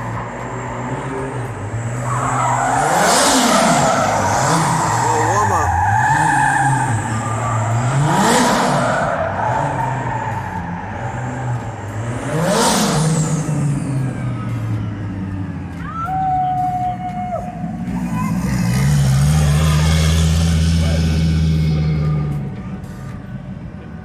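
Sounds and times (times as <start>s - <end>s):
cars revving past: 0.0s - 24.0s
steady engine drone: 0.0s - 24.0s.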